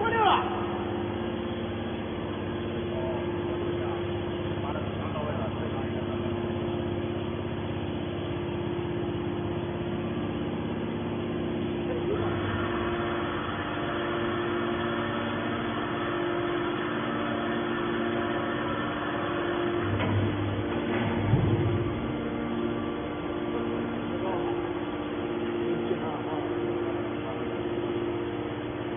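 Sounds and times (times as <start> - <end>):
baler motor and pump humming: 0.0 - 28.9.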